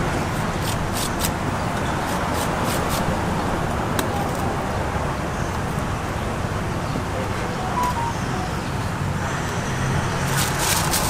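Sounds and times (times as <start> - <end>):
street market rumble: 0.0 - 11.0.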